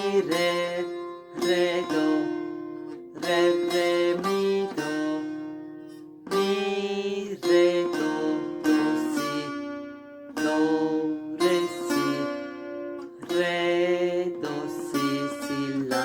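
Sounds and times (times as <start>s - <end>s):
long-necked lute plucked melody: 0.0s - 16.0s.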